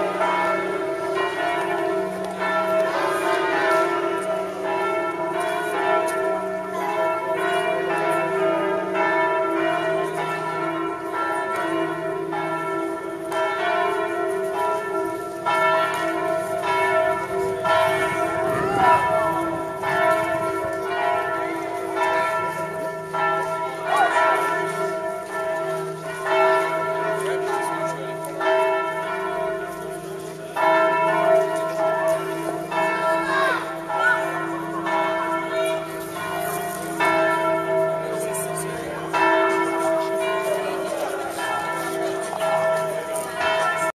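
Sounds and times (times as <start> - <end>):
church bells pealing: 0.0 - 43.9.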